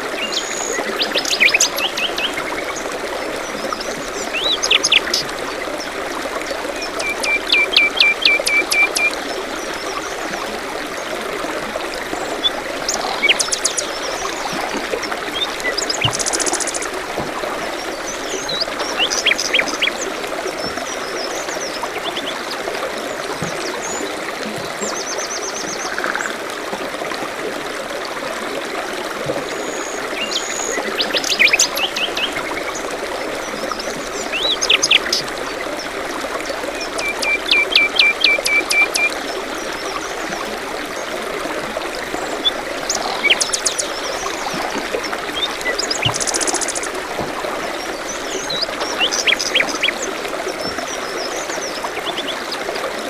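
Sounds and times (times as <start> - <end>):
small stream trickling: 0.0 - 53.0.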